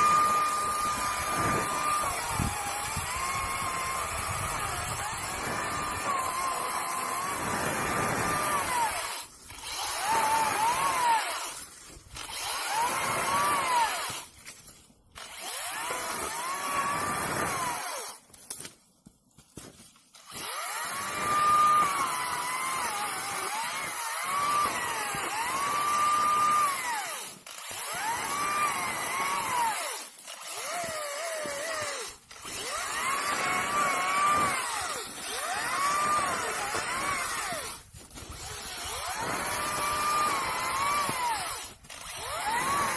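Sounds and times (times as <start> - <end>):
electric chainsaw cutting wood: 0.0 - 14.6, 15.2 - 18.3, 20.1 - 42.9.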